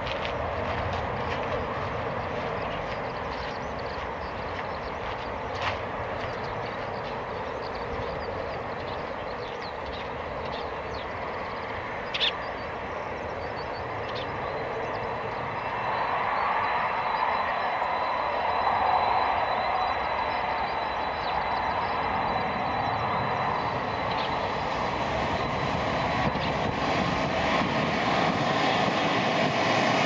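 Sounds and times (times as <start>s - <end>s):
jet engines rushing and whining: 0.0s - 30.0s.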